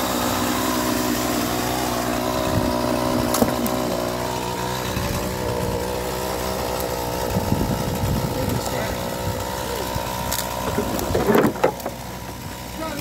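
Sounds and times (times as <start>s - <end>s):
chainsaw idling: 0.0s - 13.0s.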